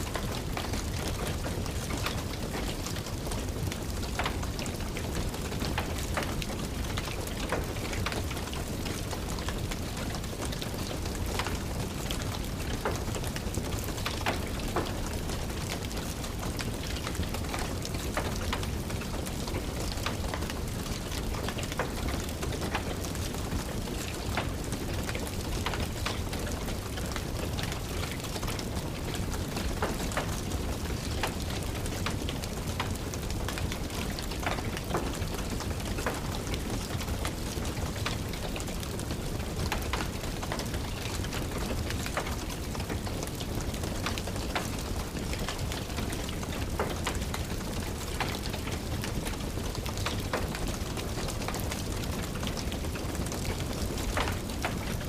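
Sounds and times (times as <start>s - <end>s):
steady rain: 0.0s - 55.0s
wood fire crackling: 0.1s - 55.0s.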